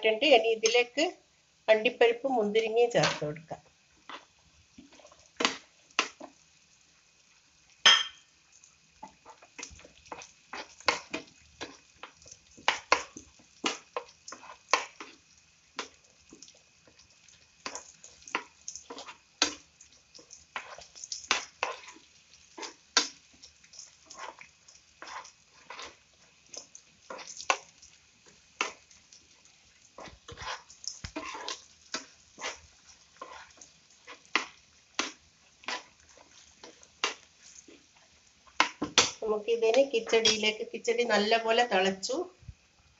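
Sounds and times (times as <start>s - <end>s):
food frying in oil: 0.0s - 42.9s.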